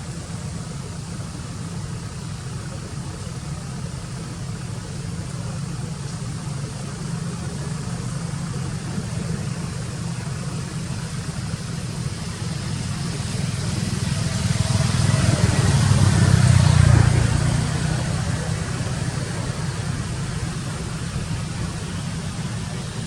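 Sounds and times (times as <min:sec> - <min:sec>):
engine running low hum: 0:00.0 - 0:23.0.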